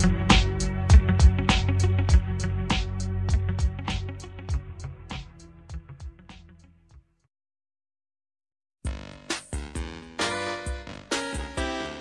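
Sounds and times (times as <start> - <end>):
music with drum beat and bass: 0.0 - 7.1, 8.9 - 12.0.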